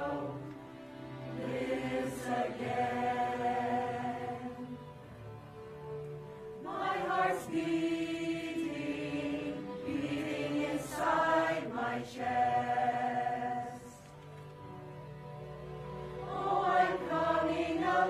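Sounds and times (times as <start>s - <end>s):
mixed choir singing: 0.0s - 5.0s, 6.5s - 14.1s, 16.1s - 18.0s.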